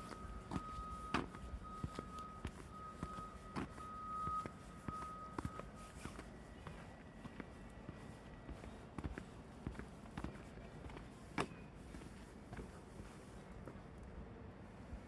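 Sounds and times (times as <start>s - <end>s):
footsteps walking: 0.0s - 13.8s.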